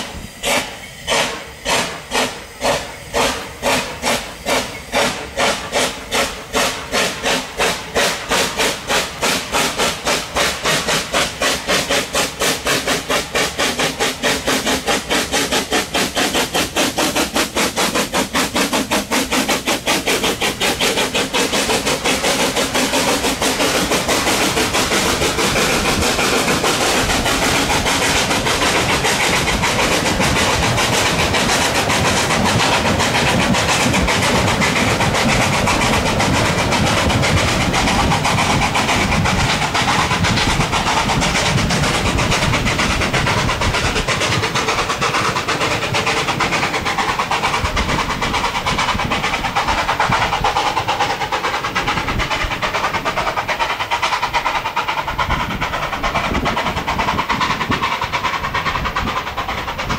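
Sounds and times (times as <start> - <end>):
train wheels clattering on rail: 0.0 - 59.9.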